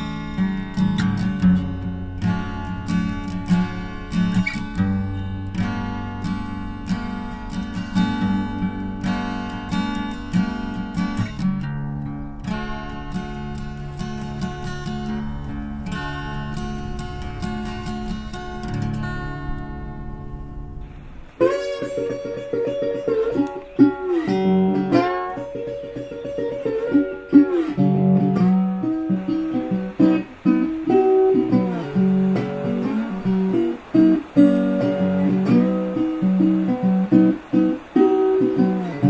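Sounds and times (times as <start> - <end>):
acoustic guitar music: 0.0 - 39.0.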